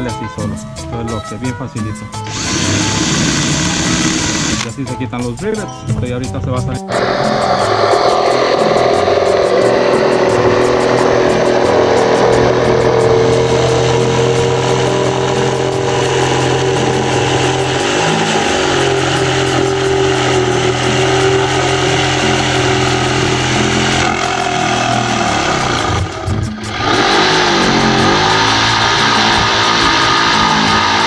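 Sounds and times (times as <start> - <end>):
power tool motor running: 2.2 - 4.7, 6.9 - 31.0.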